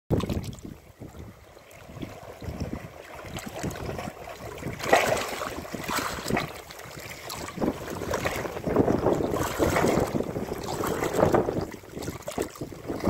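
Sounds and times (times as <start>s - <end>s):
water lapping over rocks: 0.1s - 13.0s.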